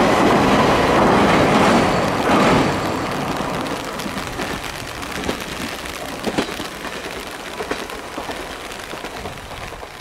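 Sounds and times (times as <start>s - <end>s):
diesel railcar rumble: 0.0s - 10.0s
rain falling: 0.0s - 10.0s.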